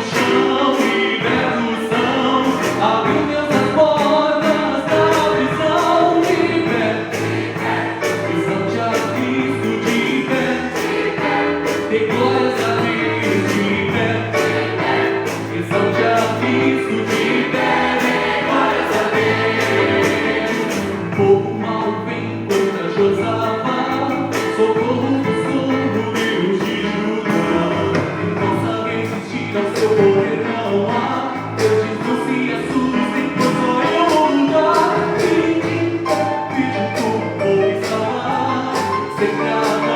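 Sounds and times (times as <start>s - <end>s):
choir singing gospel song: 0.0s - 39.9s
keyboard accompaniment: 0.0s - 39.9s.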